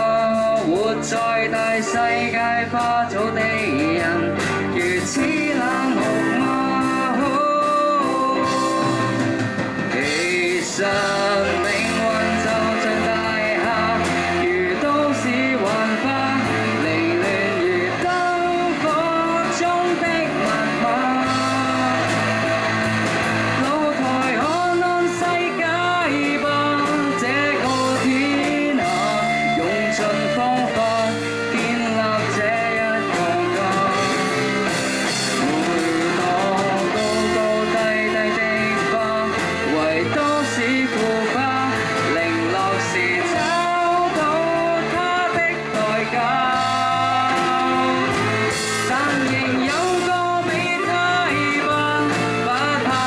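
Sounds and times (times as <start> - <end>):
bass: 0.0 - 53.0
drums: 0.0 - 53.0
guitar: 0.0 - 53.0
person singing: 0.0 - 53.0.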